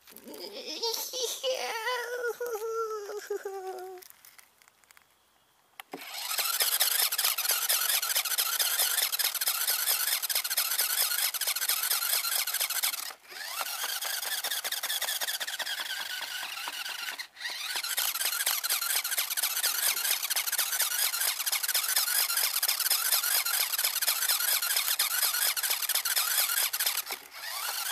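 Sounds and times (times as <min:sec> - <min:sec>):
small motor rattling whir: 0:00.0 - 0:05.0, 0:05.8 - 0:27.9.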